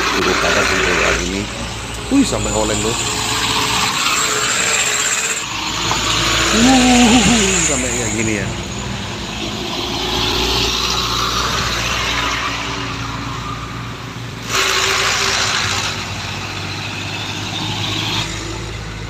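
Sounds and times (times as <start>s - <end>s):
truck and car engines passing: 0.0s - 19.0s.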